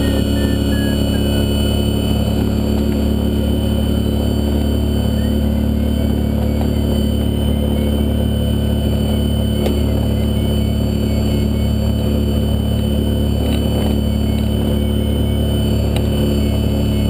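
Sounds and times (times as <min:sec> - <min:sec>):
propeller motor droning: 0:00.0 - 0:17.0
rushing wind: 0:00.0 - 0:17.0.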